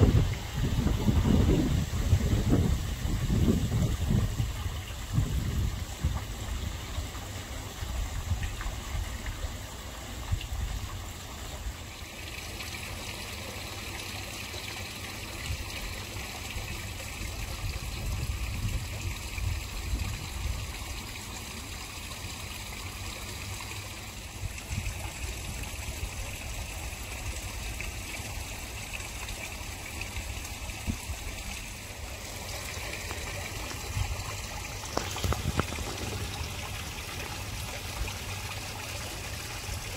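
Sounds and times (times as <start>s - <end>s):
pond water trickling and splashing: 0.0s - 39.9s.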